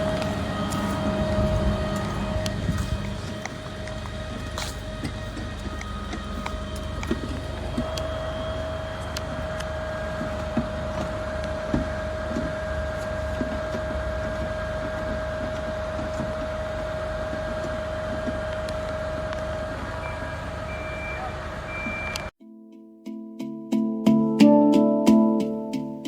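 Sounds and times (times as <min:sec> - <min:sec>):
mechanical hum: 0:00.0 - 0:22.3.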